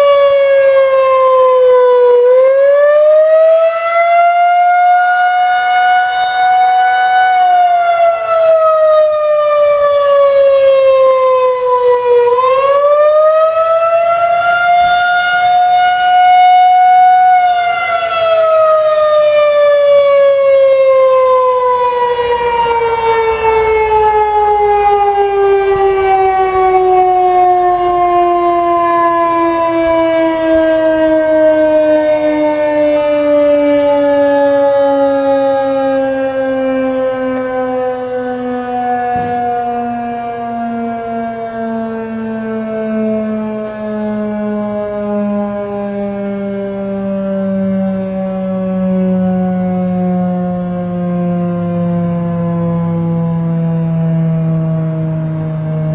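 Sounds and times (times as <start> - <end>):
warning siren wailing: 0.0 - 55.9.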